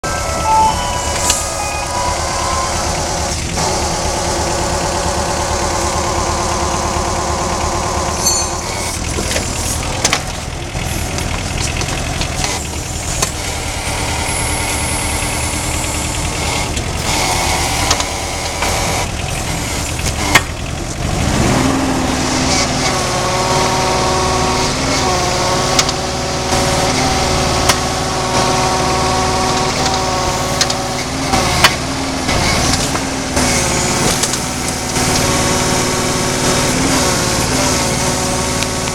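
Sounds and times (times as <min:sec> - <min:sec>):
pump rumbling and whining: 0:00.0 - 0:38.9.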